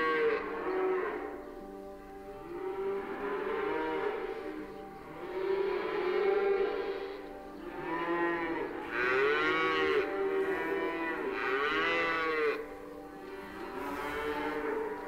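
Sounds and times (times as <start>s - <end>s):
cows mooing: 0.0s - 1.4s, 2.3s - 15.0s.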